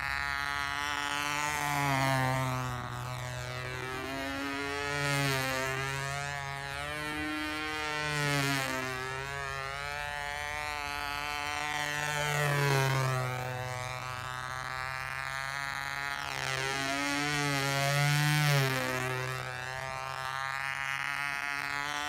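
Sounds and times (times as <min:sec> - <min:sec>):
model airplane motor droning: 0:00.0 - 0:22.0.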